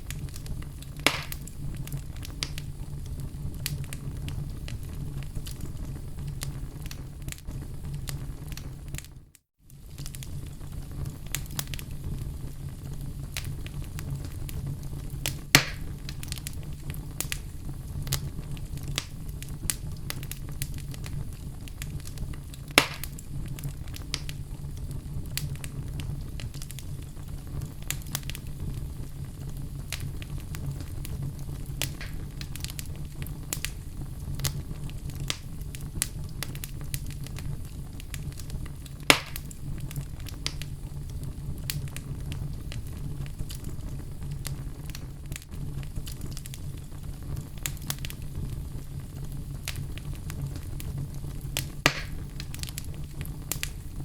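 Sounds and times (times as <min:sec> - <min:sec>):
burning logs crackling: 0:00.0 - 0:54.0
low fire rumble: 0:00.0 - 0:54.0
sharp fire pops: 0:00.0 - 0:54.0.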